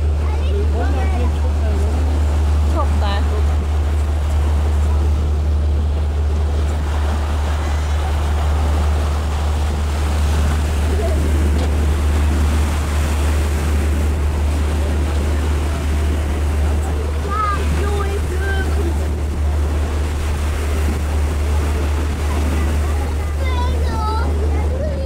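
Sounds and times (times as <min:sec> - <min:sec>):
boat engine hum: 0:00.0 - 0:25.0
water splashing along hull: 0:00.0 - 0:25.0.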